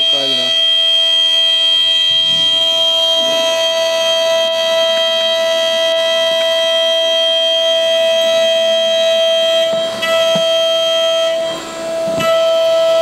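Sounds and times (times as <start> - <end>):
milling machine spindle whine: 0.0 - 13.0.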